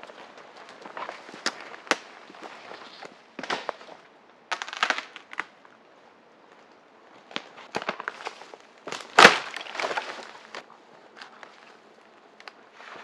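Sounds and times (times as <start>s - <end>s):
dry twigs crackling and snapping: 0.1s - 5.7s, 7.2s - 12.6s.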